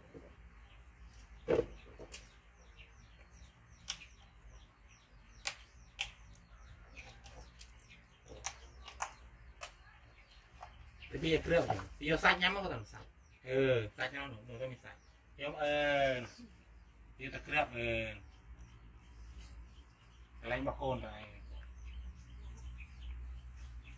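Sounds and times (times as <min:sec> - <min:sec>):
faint bird chirps: 0:00.0 - 0:23.9.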